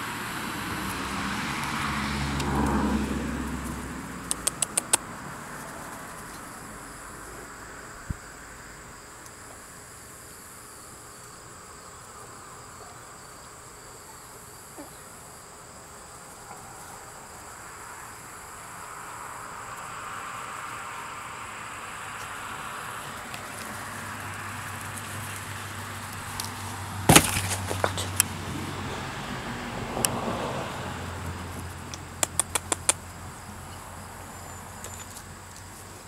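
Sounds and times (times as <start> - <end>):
crickets and insects chirping: 0.0 - 36.0.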